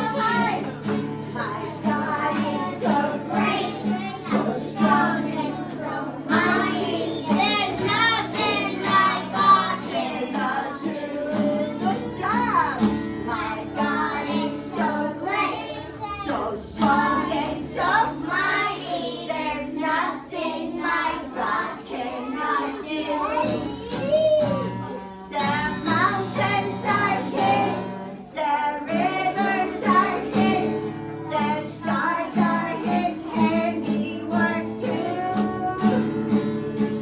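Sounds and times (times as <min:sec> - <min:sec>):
children singing: 0:00.0 - 0:37.0.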